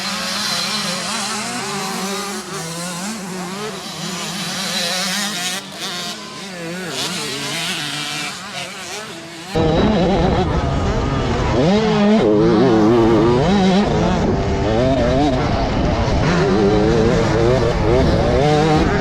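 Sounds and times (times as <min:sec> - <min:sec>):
dirt bike engines racing: 0:00.0 - 0:19.0.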